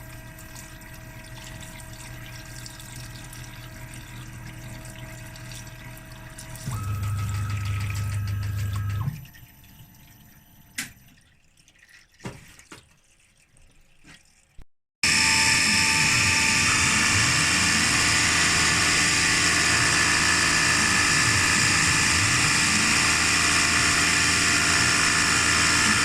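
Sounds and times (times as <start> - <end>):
workshop machinery humming: 0.0 - 11.2, 15.0 - 26.0.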